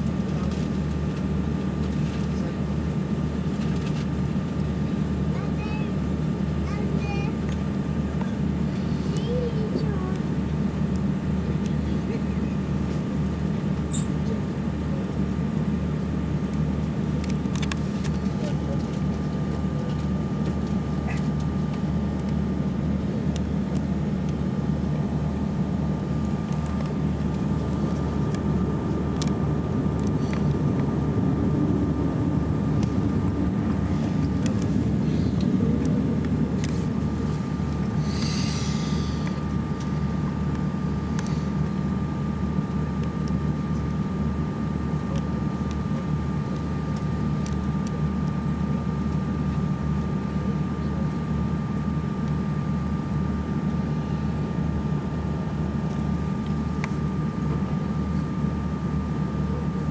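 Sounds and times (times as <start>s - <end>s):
aircraft cabin drone: 0.0s - 59.9s.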